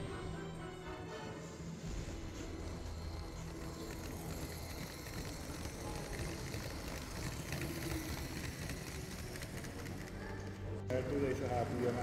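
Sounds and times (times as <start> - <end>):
toy train rolling rumble: 1.8 - 12.0.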